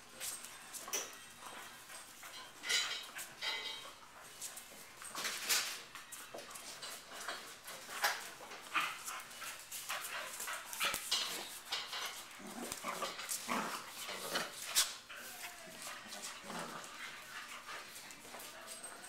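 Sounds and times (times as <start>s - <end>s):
dogs scuffling on concrete: 0.0s - 19.0s.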